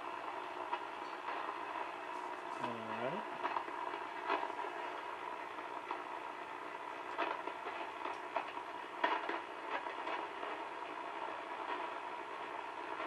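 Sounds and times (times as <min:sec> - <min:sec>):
radio crackles: 0:00.0 - 0:13.0
radio static hiss: 0:00.0 - 0:13.0.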